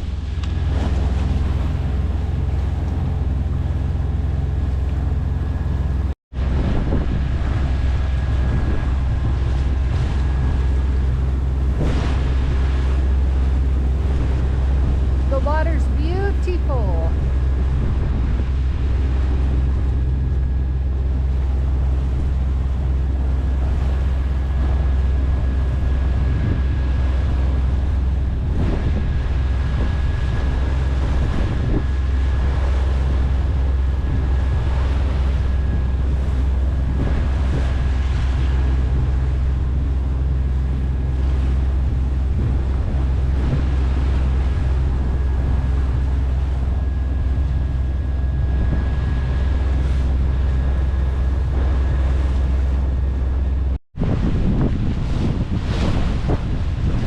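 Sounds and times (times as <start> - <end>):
diesel engine droning: 0.0 - 53.8
water rushing past hull: 0.0 - 57.0
wind buffeting microphone: 0.0 - 57.0.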